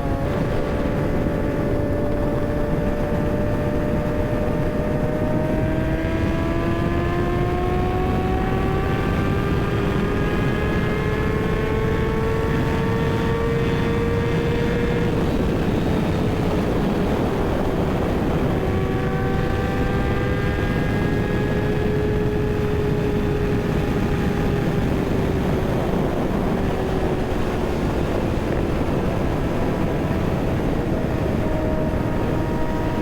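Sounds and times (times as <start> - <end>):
motorcycle engine running: 0.0 - 33.0
wind noise: 0.0 - 33.0.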